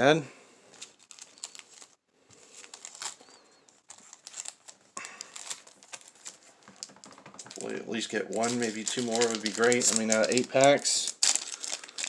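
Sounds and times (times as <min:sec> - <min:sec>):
foil pack crinkling: 0:00.7 - 0:12.0.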